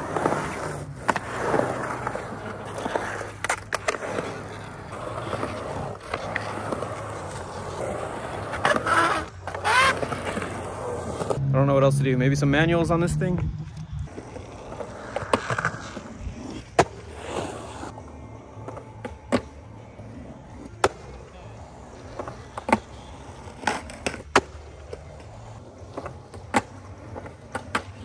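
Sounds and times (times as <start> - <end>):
skateboards clacking on concrete: 0.0 - 11.4, 13.8 - 28.0
skateboards rolling on concrete: 0.0 - 11.4, 12.0 - 28.0.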